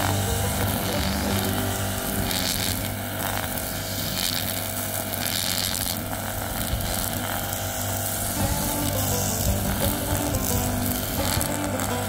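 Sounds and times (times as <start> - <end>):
brush cutter engine running: 0.0 - 12.0
line head cutting grass: 0.0 - 12.0.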